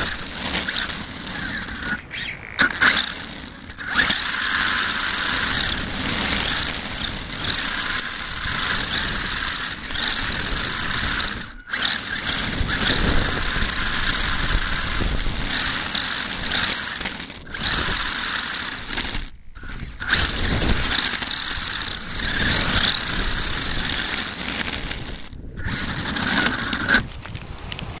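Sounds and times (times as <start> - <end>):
rc car motor whine: 0.0 - 27.4.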